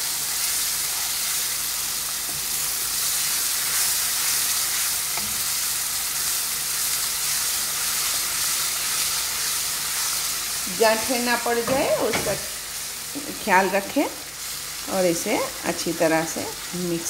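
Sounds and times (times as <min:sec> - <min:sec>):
mixture sizzling and bubbling: 0:00.0 - 0:17.0.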